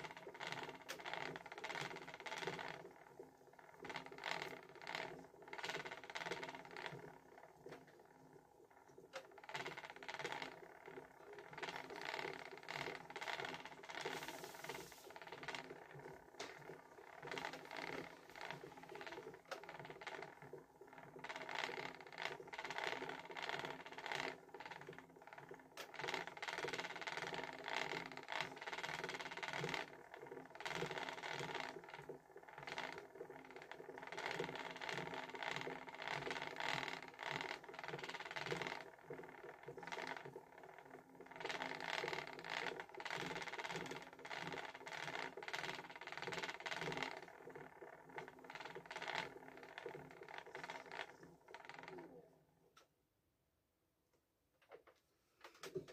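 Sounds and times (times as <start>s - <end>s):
spinning wheel clattering: 0.0s - 52.3s.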